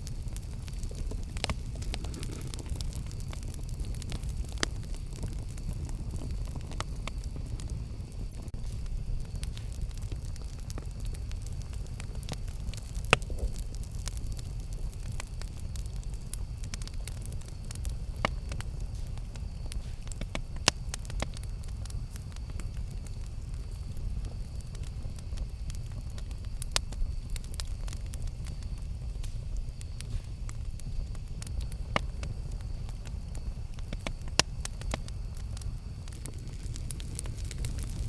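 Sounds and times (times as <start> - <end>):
burning wood crackling and popping: 0.0 - 38.0
campfire flames rushing: 0.0 - 38.0.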